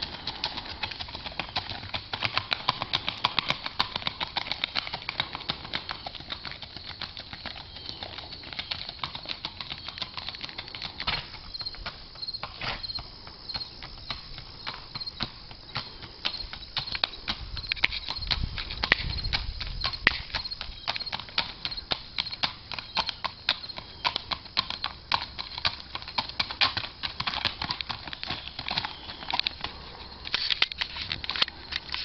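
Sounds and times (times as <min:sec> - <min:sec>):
horse hooves clip-clopping: 0:00.0 - 0:32.0.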